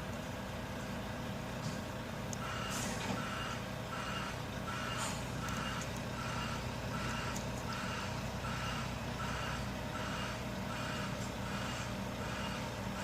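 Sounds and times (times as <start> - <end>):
diesel engine running: 0.0 - 13.0
vehicle reversing alarm beeping: 2.4 - 13.0.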